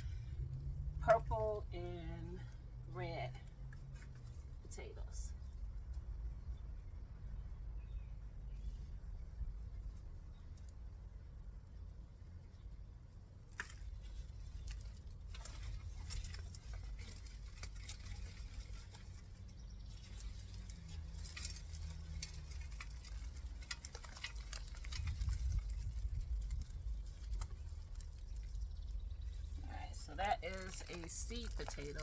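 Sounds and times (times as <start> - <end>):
low rumble: 0.0 - 32.0
soil rustling and crumbling: 0.0 - 32.0.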